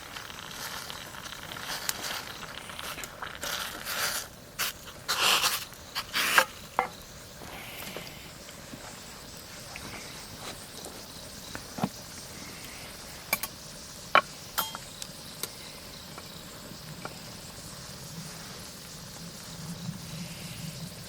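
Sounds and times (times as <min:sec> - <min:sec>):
steady hiss: 0:00.0 - 0:21.0
wood fire crackling: 0:00.0 - 0:21.0.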